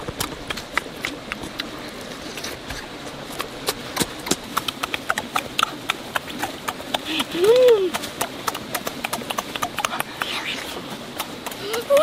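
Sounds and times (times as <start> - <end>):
chewing tomatoes: 0.0 - 12.0
wet lip smacks and clicks: 0.0 - 12.0.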